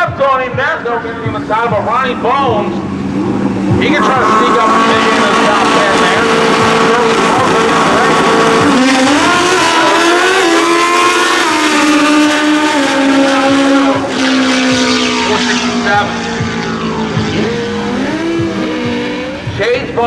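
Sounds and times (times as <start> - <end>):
motorcycle engines running loud: 0.0 - 20.0.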